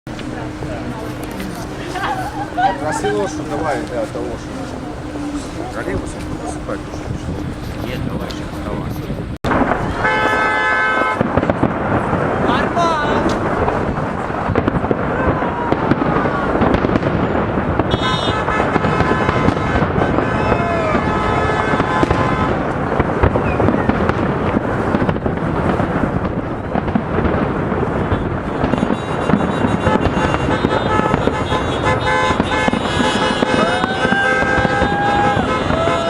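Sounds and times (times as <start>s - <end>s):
fireworks bangs and crackles: 0.1s - 36.0s.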